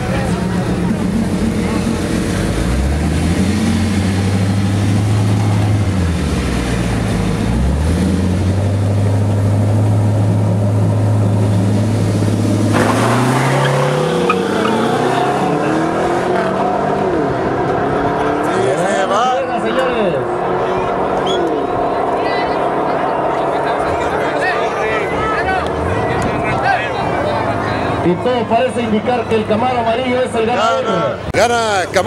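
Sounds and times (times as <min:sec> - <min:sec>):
car engines accelerating through gears: 0:00.0 - 0:28.3
car engines revving: 0:00.0 - 0:32.0.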